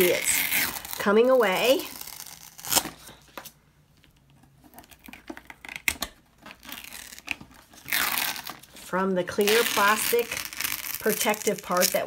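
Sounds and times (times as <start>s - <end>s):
vinyl peeling crackles: 0.0s - 12.0s.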